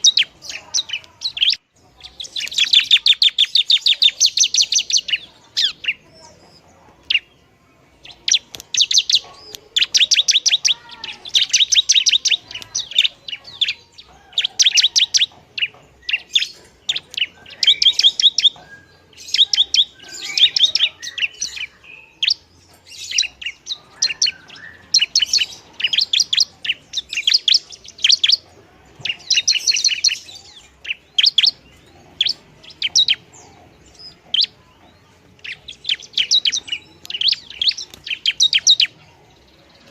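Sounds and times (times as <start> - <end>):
bird singing sharp high chirps: 0.0 - 39.9.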